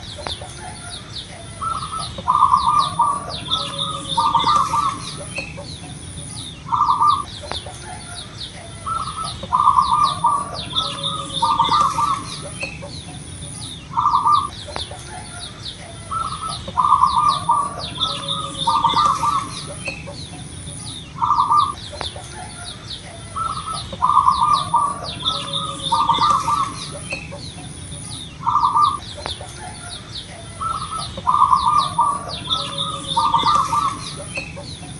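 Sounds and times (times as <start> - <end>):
dove cooing: 0.0 - 34.9
small birds chirping: 0.0 - 34.9
steady high-pitched whine: 0.0 - 34.9.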